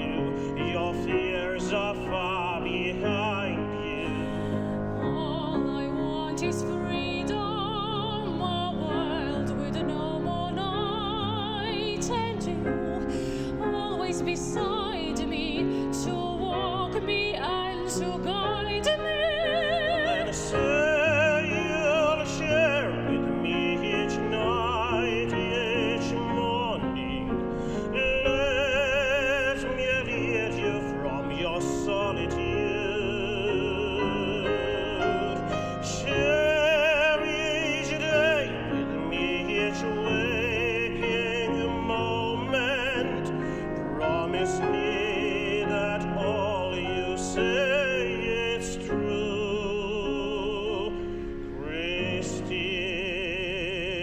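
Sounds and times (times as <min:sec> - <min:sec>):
grand piano: 0:00.0 - 0:54.0
man singing with vibrato: 0:00.0 - 0:54.0.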